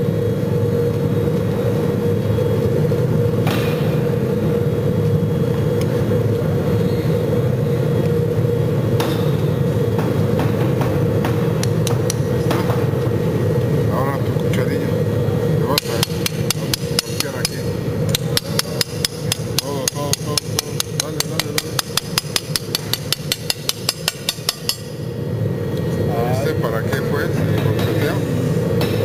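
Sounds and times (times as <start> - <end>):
workshop machinery humming: 0.0 - 29.0.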